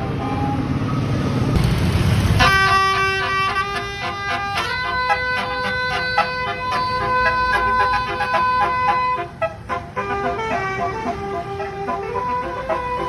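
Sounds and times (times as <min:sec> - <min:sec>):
bus horn playing a tune: 0:00.0 - 0:01.6, 0:02.2 - 0:13.0
low engine rumble: 0:00.0 - 0:13.0.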